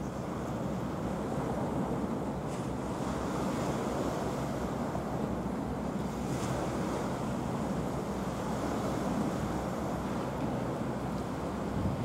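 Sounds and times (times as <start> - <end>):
sea waves: 0.0 - 12.0
wind: 0.0 - 12.0
wind rumbling on microphone: 0.0 - 12.0.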